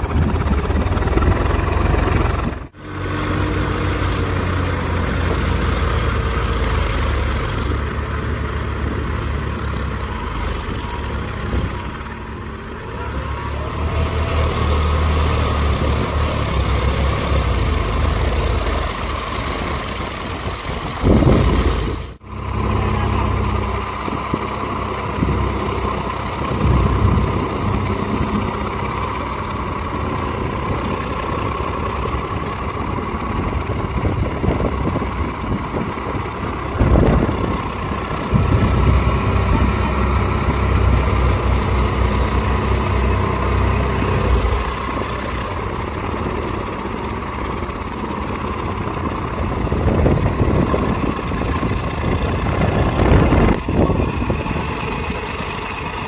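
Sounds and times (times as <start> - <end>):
tractor diesel engines running hard: 0.0 - 56.0.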